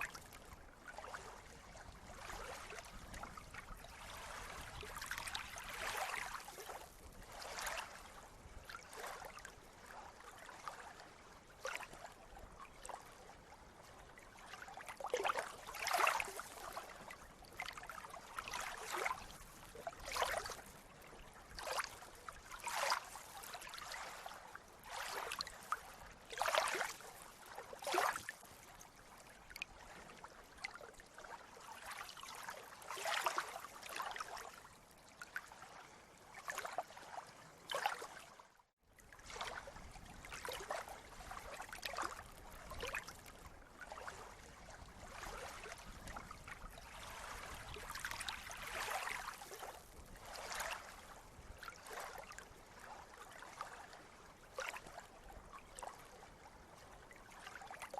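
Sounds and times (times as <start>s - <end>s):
steady wash of water: 0.0s - 38.5s, 39.1s - 55.2s
small waves lapping and splashing: 0.0s - 57.9s.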